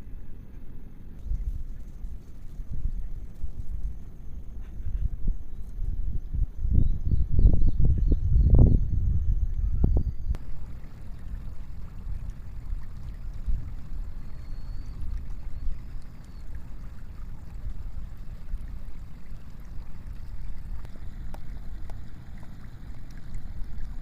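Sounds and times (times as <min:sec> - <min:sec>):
wind and sea rumble: 0:00.0 - 0:24.0.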